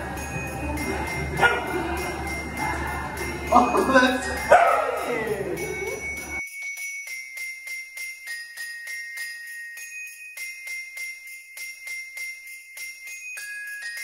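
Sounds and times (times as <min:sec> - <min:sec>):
high bell-like melody: 0:00.0 - 0:14.0
sleigh bells shaken: 0:00.0 - 0:14.0.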